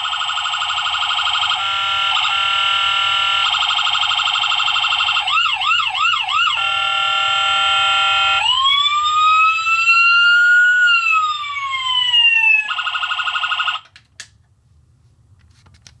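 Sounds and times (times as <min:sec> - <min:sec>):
electronic police siren: 0:00.0 - 0:13.9.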